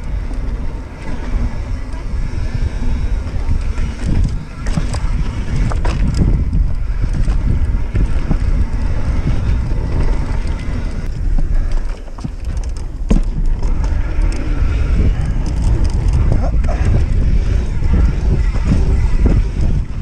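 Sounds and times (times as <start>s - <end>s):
bike clicks and rattles: 0.0s - 20.0s
tyre rumble: 0.0s - 20.0s
wind buffeting microphone: 0.0s - 20.0s.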